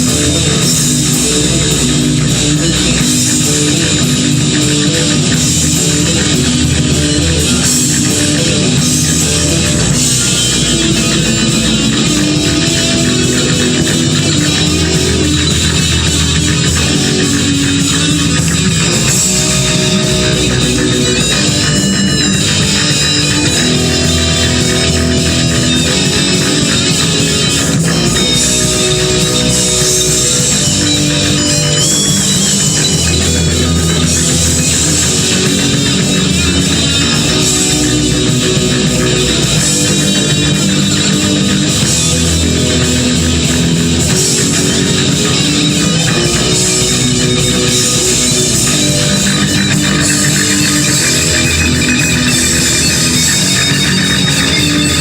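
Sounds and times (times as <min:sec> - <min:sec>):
bass guitar: 0:00.0 - 0:55.0
distorted electric guitars: 0:00.0 - 0:55.0
drum kit: 0:00.0 - 0:55.0.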